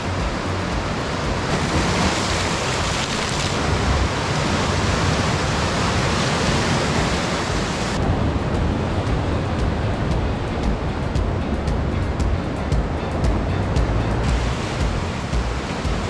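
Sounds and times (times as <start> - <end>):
surf washing over rocks: 0.0 - 16.0.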